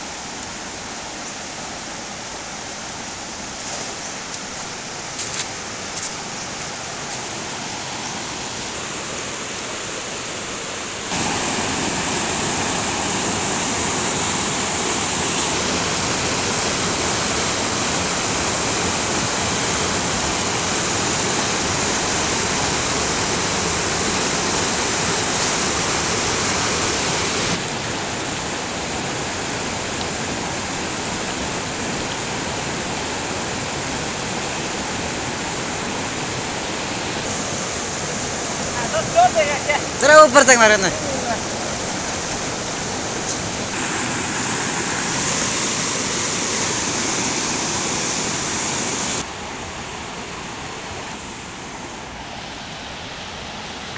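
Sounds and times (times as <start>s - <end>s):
river rushing over rapids: 0.0s - 53.9s.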